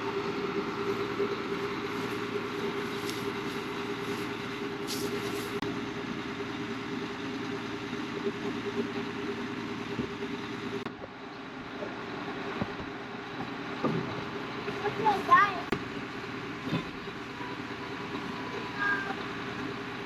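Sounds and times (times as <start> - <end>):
farm machine engine humming: 0.0 - 20.0.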